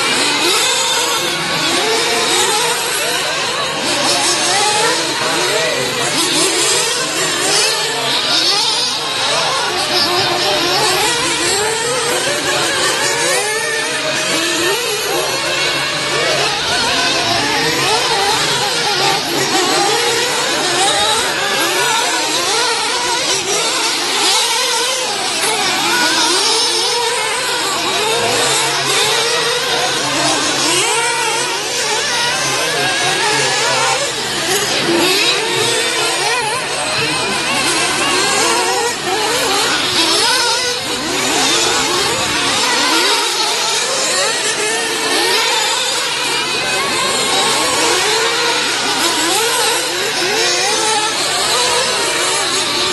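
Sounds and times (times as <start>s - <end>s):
rc car engines revving: 0.0s - 52.9s.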